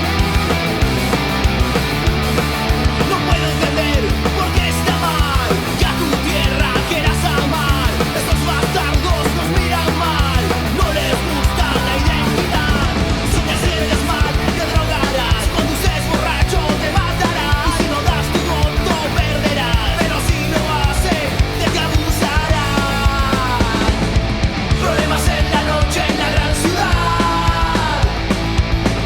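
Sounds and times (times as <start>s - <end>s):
punk rock band playing: 0.0s - 29.0s.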